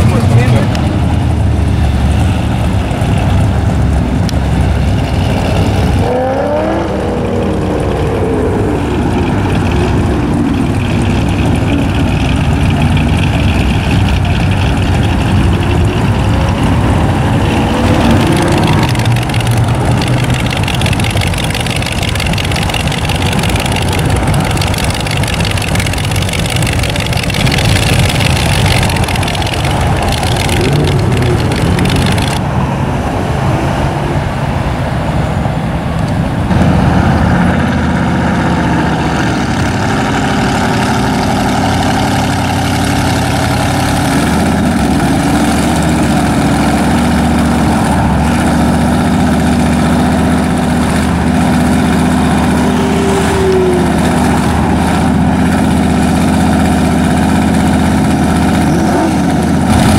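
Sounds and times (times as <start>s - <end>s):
engines revving: 0.0s - 59.9s
engines rumbling past: 0.0s - 59.9s.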